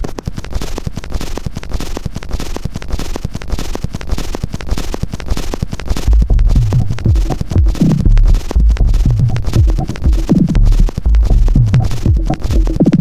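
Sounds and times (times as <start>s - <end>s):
plastic sheet crackling and popping: 0.0s - 13.0s.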